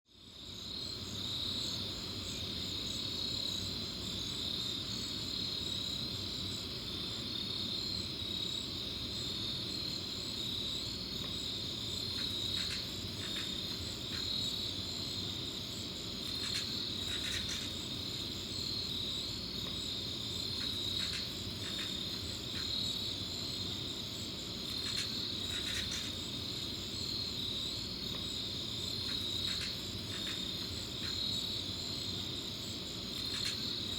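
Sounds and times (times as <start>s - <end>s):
crickets chirping: 0.1s - 33.9s.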